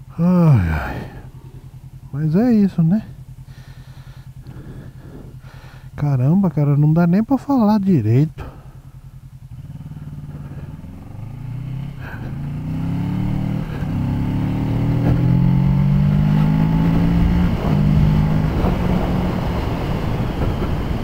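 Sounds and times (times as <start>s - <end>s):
motorcycle engine accelerating: 0.1s - 6.0s, 8.3s - 21.0s.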